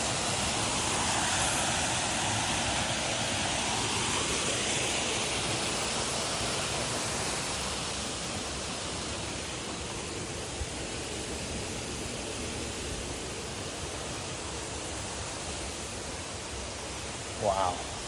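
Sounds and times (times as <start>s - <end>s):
waterfall rushing water: 0.0s - 18.0s.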